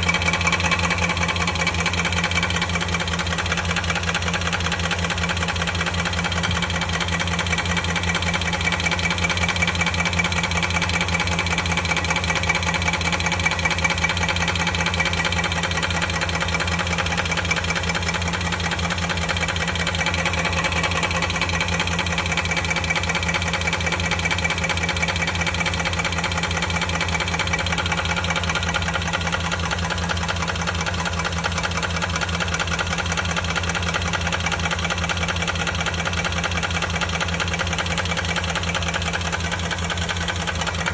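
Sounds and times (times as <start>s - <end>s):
engine idling with fast ticking: 0.0s - 40.9s.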